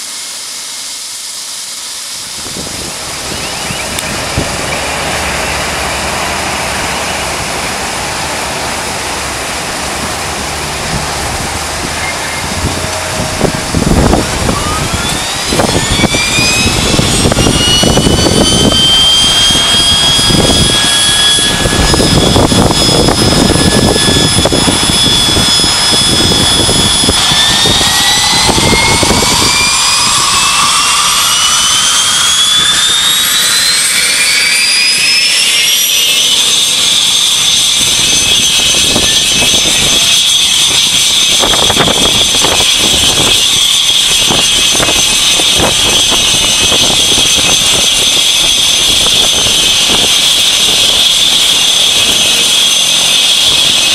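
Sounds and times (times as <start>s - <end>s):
helicopter turbine engine whine: 0.0s - 53.9s
wind buffeting microphone: 2.2s - 35.6s, 36.4s - 53.9s.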